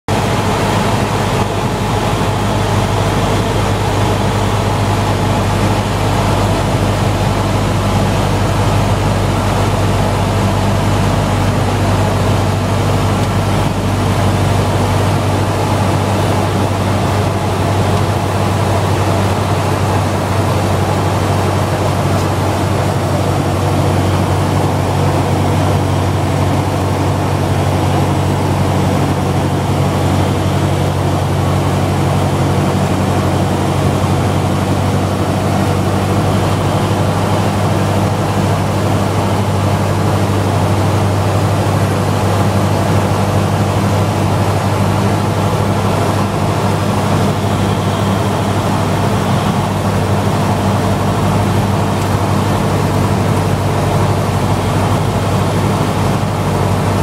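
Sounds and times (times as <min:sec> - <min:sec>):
aircraft engine and propeller droning: 0:00.1 - 0:57.0.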